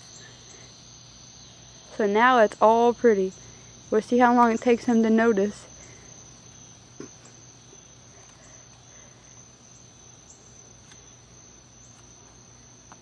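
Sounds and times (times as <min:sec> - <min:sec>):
crickets trilling: 0:00.0 - 0:13.0
low steady hum: 0:00.0 - 0:13.0.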